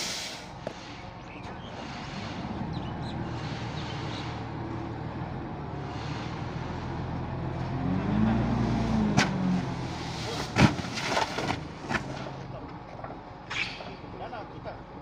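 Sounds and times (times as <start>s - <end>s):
truck engine running: 0.4s - 15.0s.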